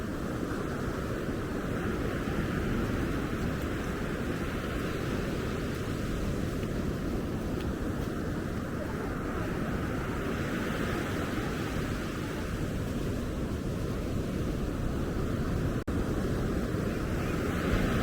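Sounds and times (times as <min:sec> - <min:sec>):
wind buffeting microphone: 0:00.0 - 0:18.0
ocean surf breaking: 0:00.1 - 0:18.0.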